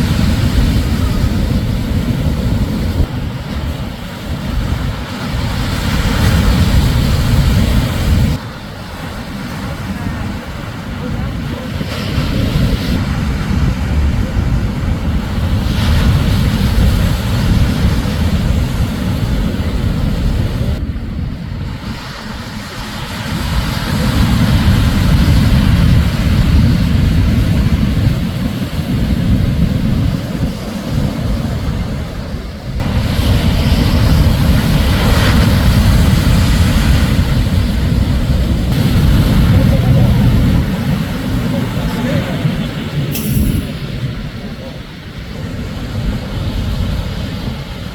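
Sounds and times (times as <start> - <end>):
waves breaking on beach: 0.0 - 47.9
wind rumble on microphone: 0.0 - 47.9.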